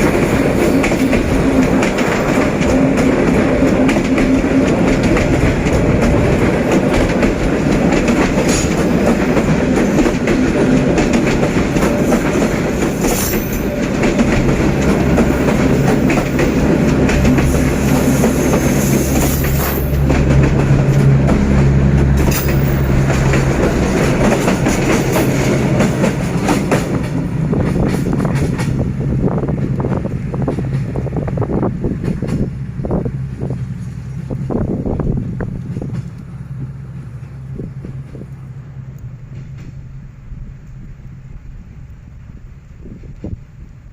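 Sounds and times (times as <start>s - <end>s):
wheels clicking over rails: 0.0s - 42.0s
low locomotive engine drone: 0.0s - 43.9s
train rumble: 0.0s - 43.9s.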